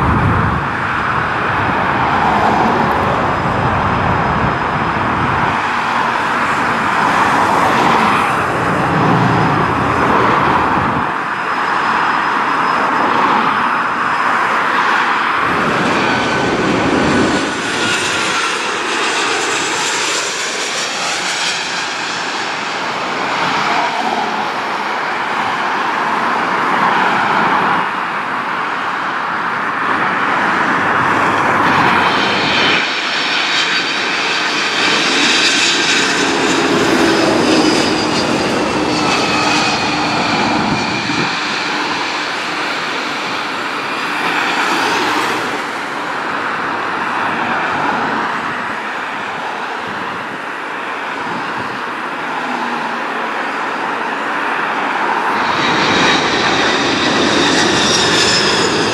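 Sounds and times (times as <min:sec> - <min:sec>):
jet plane passing overhead: 0:00.0 - 0:58.9
road traffic: 0:00.0 - 0:58.9.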